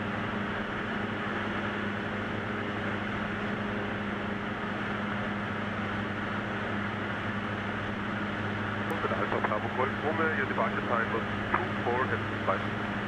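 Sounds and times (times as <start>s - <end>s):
light aircraft engine humming: 0.0s - 13.0s.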